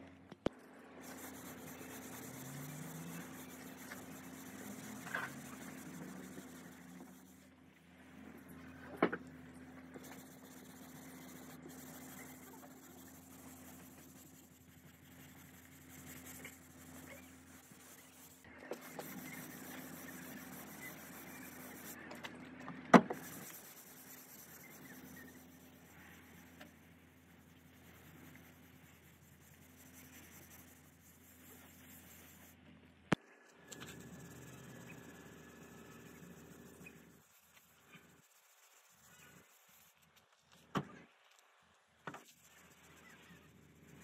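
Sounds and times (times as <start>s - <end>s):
faint steady hum: 0.0s - 44.0s
sanding block scratching: 1.0s - 7.5s, 9.6s - 22.0s, 23.0s - 32.5s, 33.8s - 40.1s, 42.2s - 44.0s.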